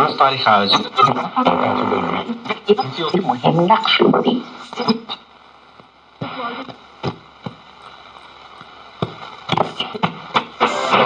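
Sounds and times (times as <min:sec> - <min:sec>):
radio static hiss: 0:00.0 - 0:11.0
static crackles and clicks: 0:00.0 - 0:11.0.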